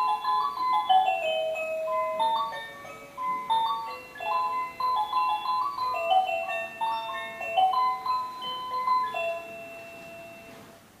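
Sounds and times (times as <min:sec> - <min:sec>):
clock chime-like melody: 0:00.0 - 0:10.6.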